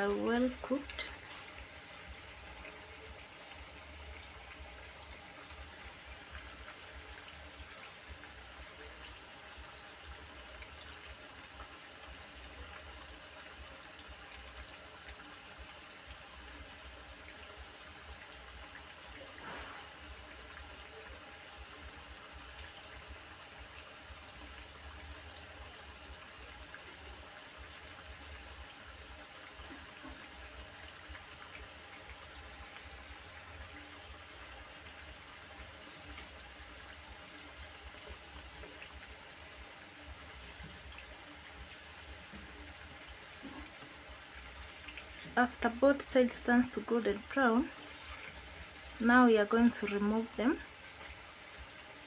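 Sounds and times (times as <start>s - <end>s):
fritters sizzling in hot oil: 0.0s - 52.0s.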